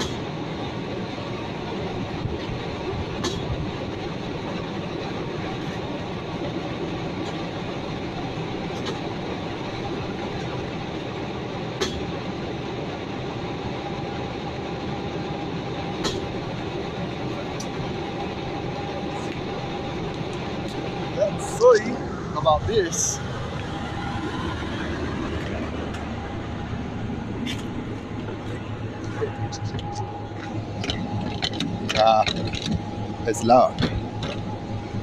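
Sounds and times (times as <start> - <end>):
engine running with leaking exhaust: 0.0 - 35.0.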